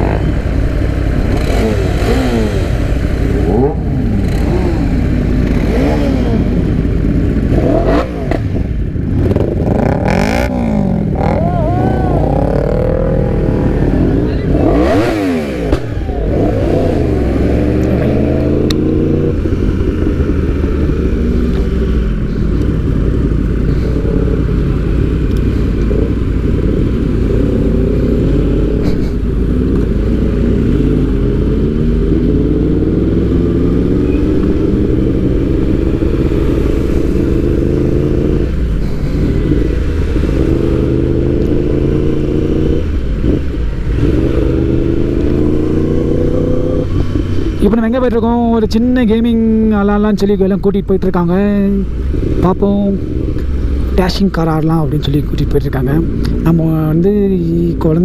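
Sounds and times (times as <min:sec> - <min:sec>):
motorcycle engine running: 0:00.0 - 0:50.1.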